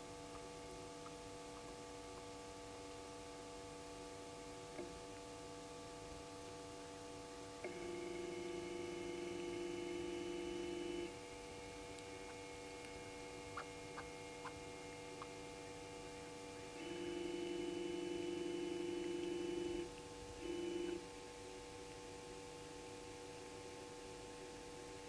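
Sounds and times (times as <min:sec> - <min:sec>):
steady electrical hum: 0:00.0 - 0:25.0.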